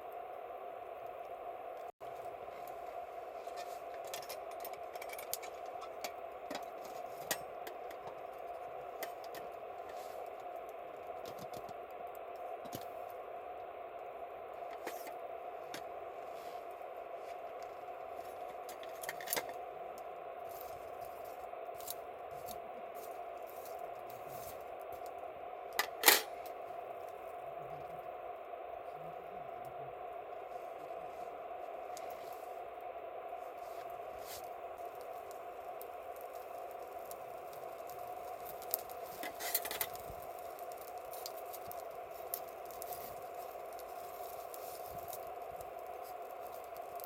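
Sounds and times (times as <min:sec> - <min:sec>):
campfire crackling and popping: 0:00.0 - 0:47.0
fire hiss: 0:00.0 - 0:47.0.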